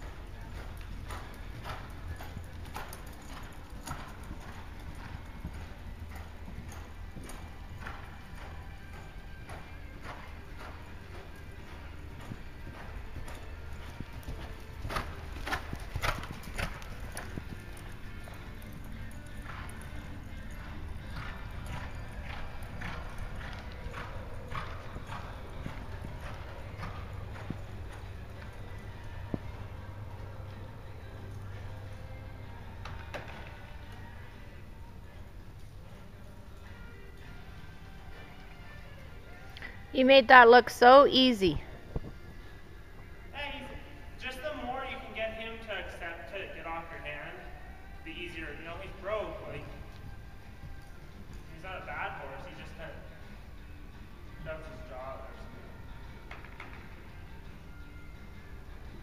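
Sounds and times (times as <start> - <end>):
horse hoofbeats on dirt: 0.0 - 59.0.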